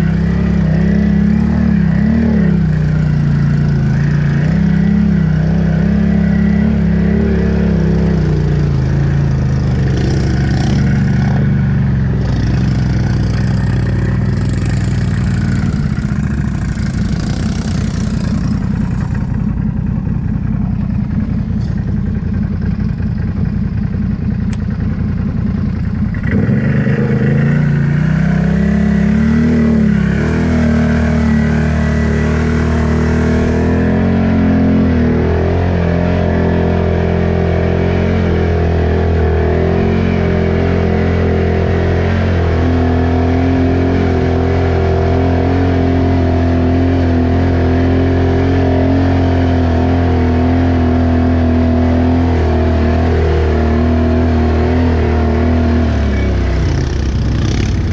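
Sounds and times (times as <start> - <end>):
atv engine revving in mud: 0.0 - 19.8, 25.6 - 57.9.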